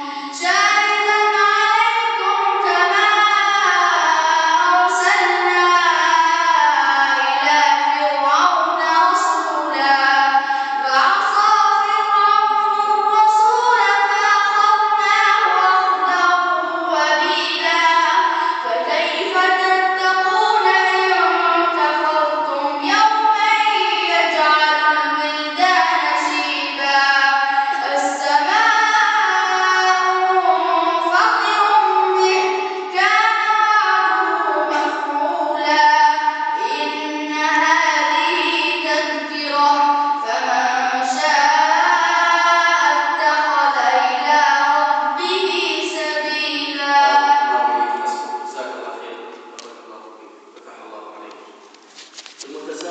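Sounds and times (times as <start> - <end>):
boy chanting: 0.0 - 49.8.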